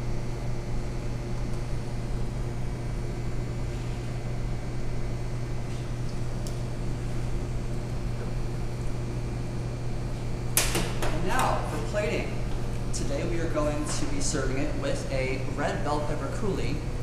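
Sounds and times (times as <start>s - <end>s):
ventilation fan hum: 0.0s - 17.0s.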